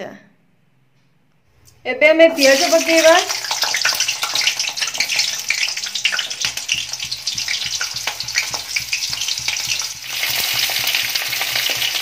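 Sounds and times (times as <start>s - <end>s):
onions frying in hot oil: 2.3s - 12.0s.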